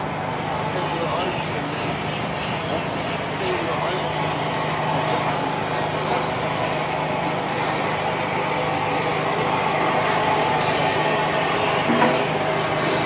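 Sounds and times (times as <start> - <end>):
steam locomotive rumbling slowly: 0.0 - 13.0.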